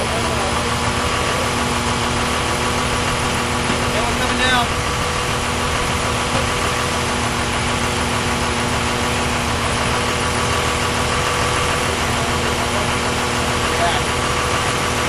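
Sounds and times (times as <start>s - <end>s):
jet engines droning: 0.0s - 15.0s
steady engine whine: 0.0s - 15.0s.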